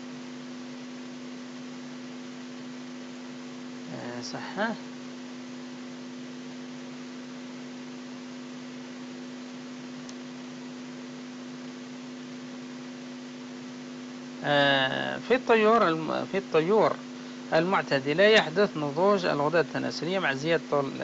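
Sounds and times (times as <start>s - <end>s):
electrical hum with hiss: 0.0s - 21.0s.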